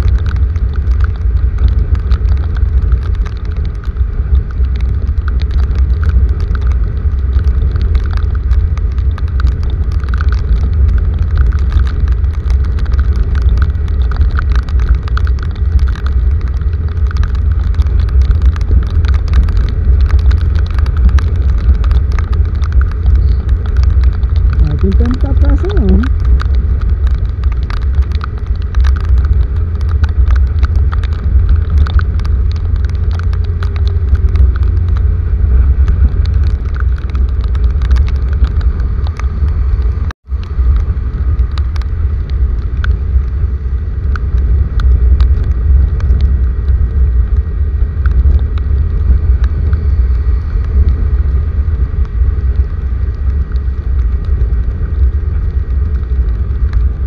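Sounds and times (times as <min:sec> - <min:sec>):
deep rumble: 0:00.0 - 0:57.0
heavy rain patter: 0:00.0 - 0:57.0.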